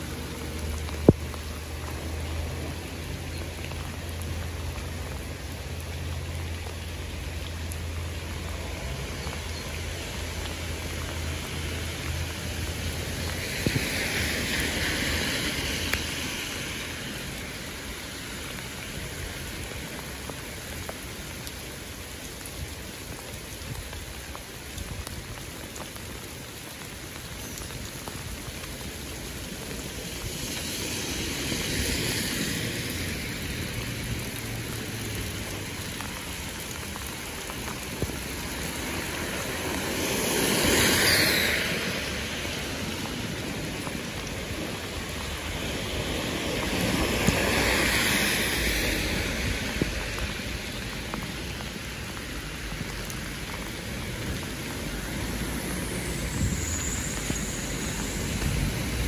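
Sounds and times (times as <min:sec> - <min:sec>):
car tyres swishing on wet road: 0:00.0 - 0:59.0
rain on street: 0:00.0 - 0:59.0.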